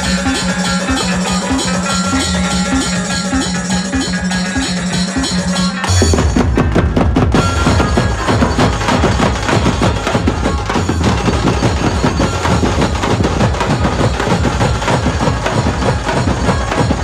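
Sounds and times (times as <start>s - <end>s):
amplified band music: 0.0s - 17.0s
driving drums: 0.0s - 17.0s.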